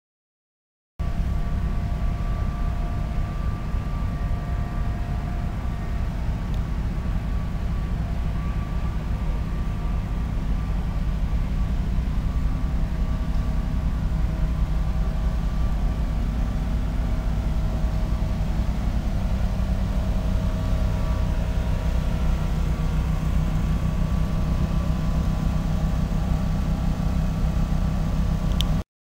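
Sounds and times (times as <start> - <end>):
faint higher hums: 1.0 - 28.8
idling train drone: 1.0 - 28.8.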